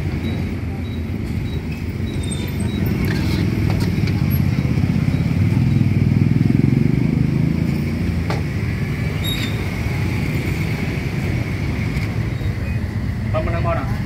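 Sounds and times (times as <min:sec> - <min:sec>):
motorbike traffic rumble: 0:00.0 - 0:14.0.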